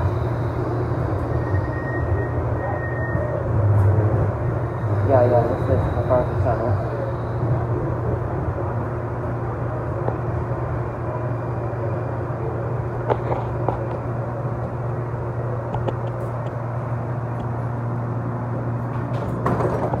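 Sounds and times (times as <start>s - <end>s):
train running gear hum: 0.0s - 20.0s.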